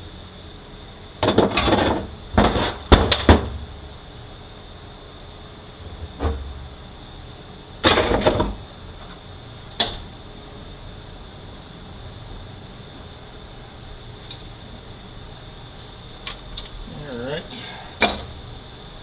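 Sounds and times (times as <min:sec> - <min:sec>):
steady shop hum: 0:00.0 - 0:19.0.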